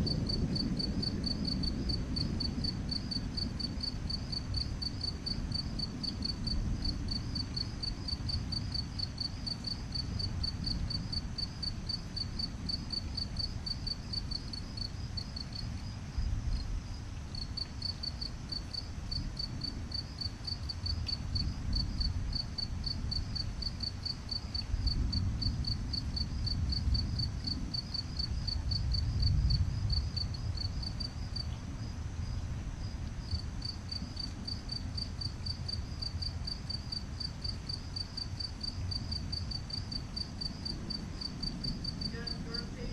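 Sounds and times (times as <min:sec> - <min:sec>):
night insects chirping: 0:00.0 - 0:42.9.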